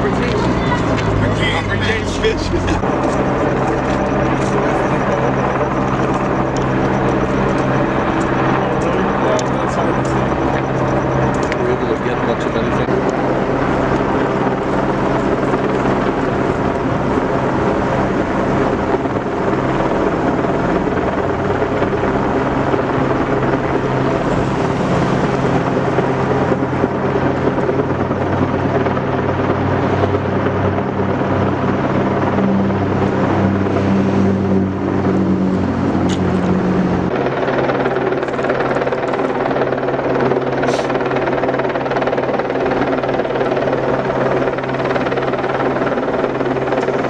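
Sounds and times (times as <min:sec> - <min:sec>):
loud engine drone: 0:00.0 - 0:47.0.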